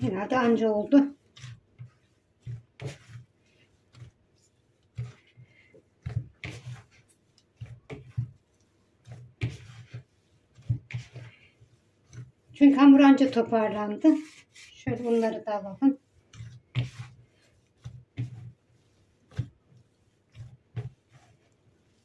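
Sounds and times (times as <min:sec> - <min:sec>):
dough kneading thumps in bowl: 0:00.0 - 0:22.0
dough rubbing: 0:00.0 - 0:22.0.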